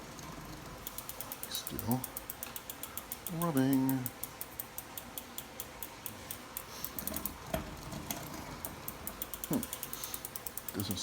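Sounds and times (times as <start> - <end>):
bicycle freewheel ticking: 0.1 - 7.9, 8.5 - 11.0.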